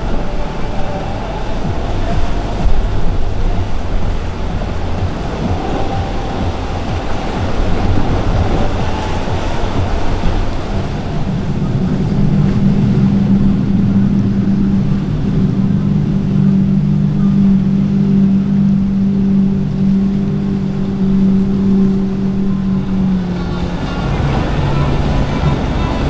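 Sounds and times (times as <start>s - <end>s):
hull rushing through water: 0.0s - 26.0s
outboard engines droning: 0.0s - 26.0s.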